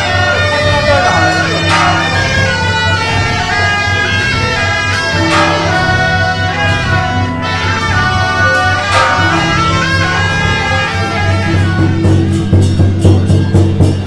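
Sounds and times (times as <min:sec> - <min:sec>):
wind instruments playing melody: 0:00.0 - 0:13.4
steady beat: 0:00.0 - 0:14.0.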